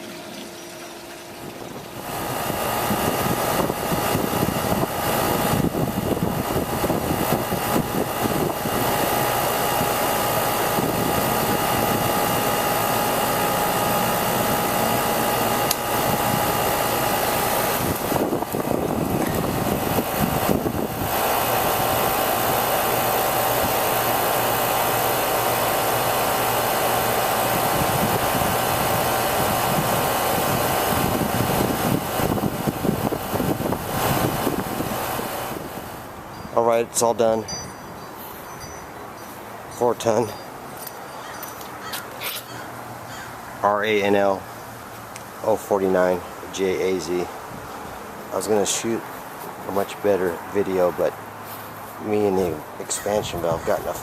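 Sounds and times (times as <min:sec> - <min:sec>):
air conditioner unit humming: 0:00.0 - 0:54.0.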